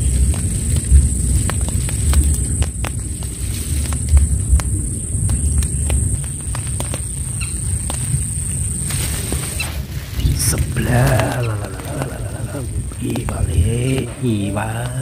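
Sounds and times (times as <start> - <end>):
raindrops ticking: 0.0 - 15.0
wind buffeting microphone: 0.0 - 15.0.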